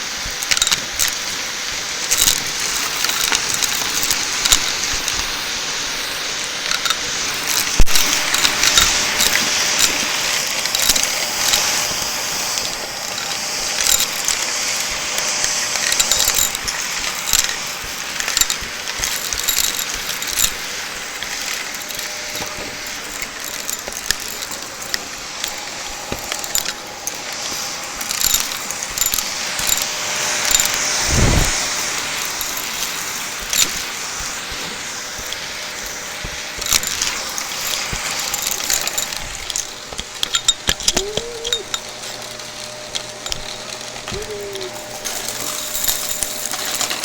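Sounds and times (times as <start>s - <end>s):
debris crackling in vacuum: 0.0s - 47.0s
vacuum cleaner running: 0.0s - 47.0s.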